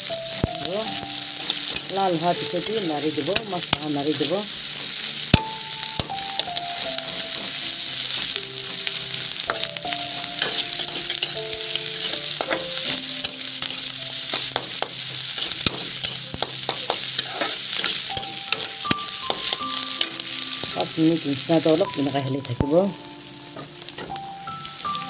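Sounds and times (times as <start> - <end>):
faint tune of held notes: 0.0 - 15.0, 15.6 - 25.0
onions sizzling in oil: 0.0 - 25.0.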